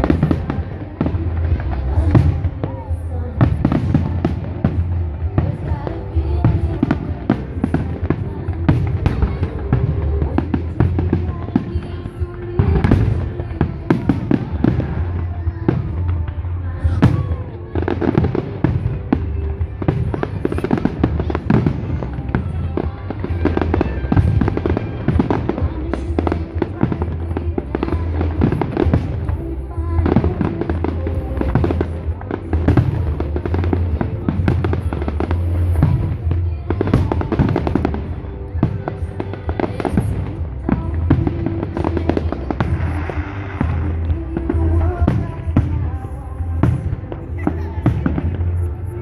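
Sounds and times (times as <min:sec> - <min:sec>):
fireworks bangs and crackles: 0:00.0 - 0:49.0
music with steady bass: 0:00.0 - 0:49.0.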